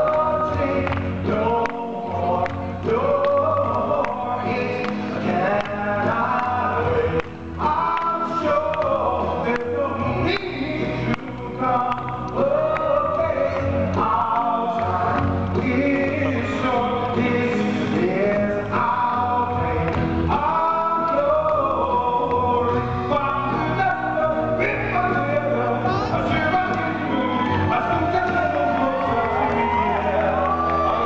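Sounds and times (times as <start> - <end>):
backing music: 0.0 - 31.0
man singing into microphone: 0.0 - 31.0.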